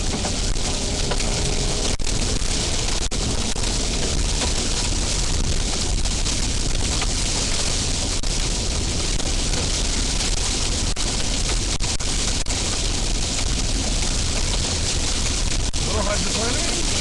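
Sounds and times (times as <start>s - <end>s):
drops or hail tapping car: 0.0s - 17.0s
rain and wind rushing: 0.0s - 17.0s
road rumble: 0.0s - 17.0s.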